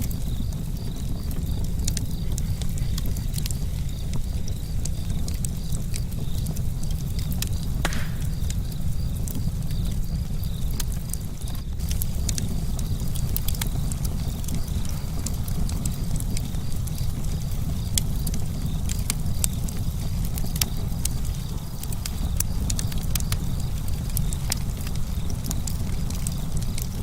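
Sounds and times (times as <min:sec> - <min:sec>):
fire rumbling: 0:00.0 - 0:27.0
wood crackling and popping: 0:00.0 - 0:27.0.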